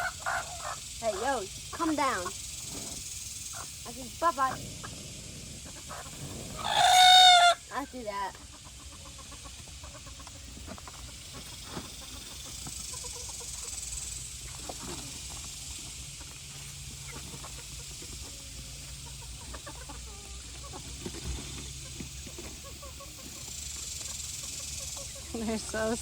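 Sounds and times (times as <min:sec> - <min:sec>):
chickens clucking: 0:00.0 - 0:26.0
steady background hiss: 0:00.0 - 0:26.0.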